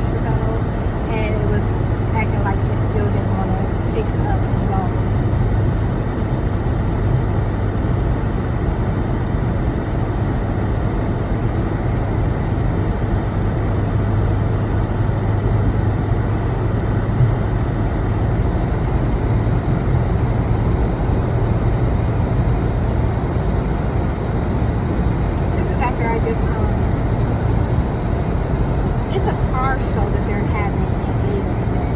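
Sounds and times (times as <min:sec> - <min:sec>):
car engine and road rumble: 0:00.0 - 0:31.9.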